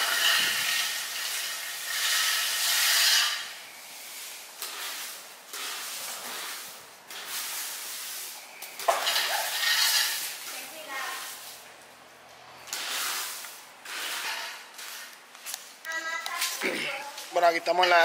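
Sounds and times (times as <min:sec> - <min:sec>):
rake scraping branches on concrete: 0:00.0 - 0:11.9, 0:12.5 - 0:18.0.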